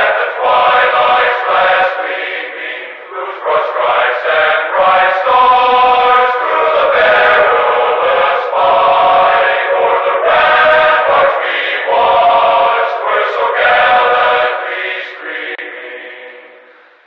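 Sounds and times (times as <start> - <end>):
choir singing: 0.0 - 16.8.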